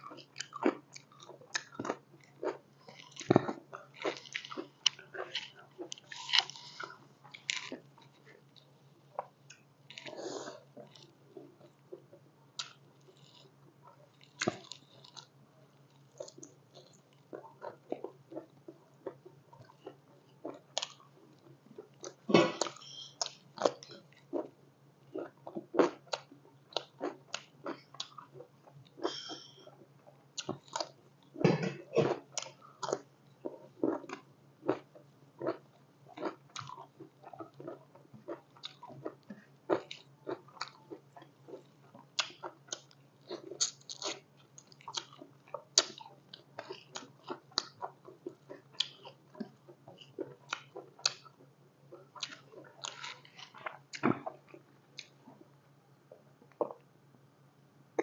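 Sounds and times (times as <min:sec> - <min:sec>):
person chewing and smacking: 0:00.0 - 0:24.5, 0:25.1 - 0:31.4, 0:32.0 - 0:55.4.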